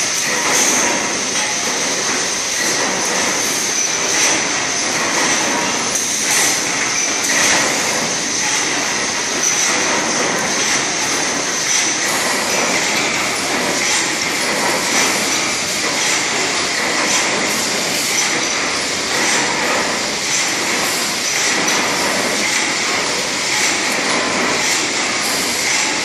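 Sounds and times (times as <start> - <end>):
drilling machine drilling steel: 0.0 - 26.0.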